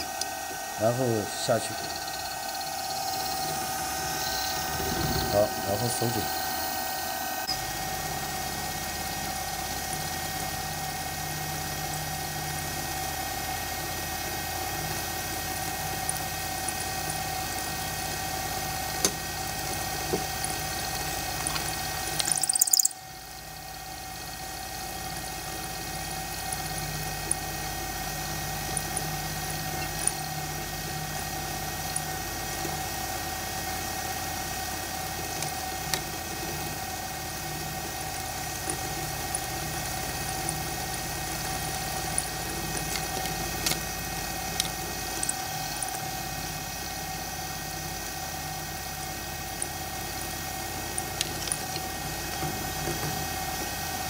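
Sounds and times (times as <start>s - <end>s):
milling machine motor hum: 0.0s - 54.0s.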